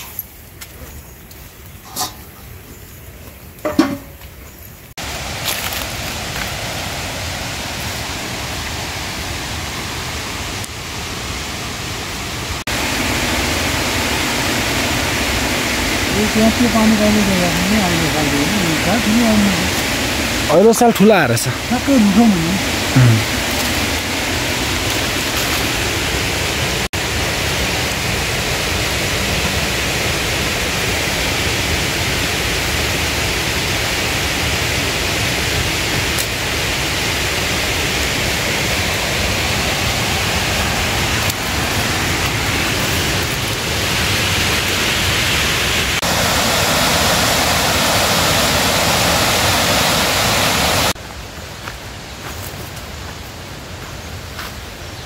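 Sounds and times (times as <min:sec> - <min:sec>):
heavy rain hissing: 0:04.9 - 0:54.9.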